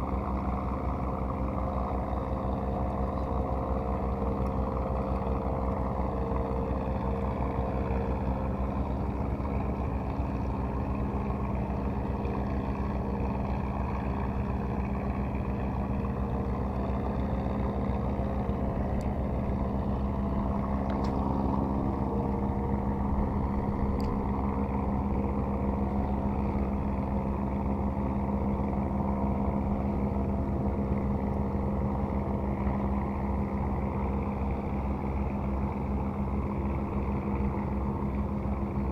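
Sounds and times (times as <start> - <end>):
engine droning steadily: 0.0 - 38.9.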